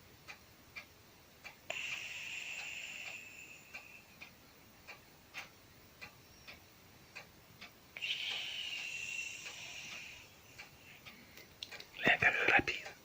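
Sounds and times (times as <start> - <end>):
soft ticks: 0.2 - 13.0.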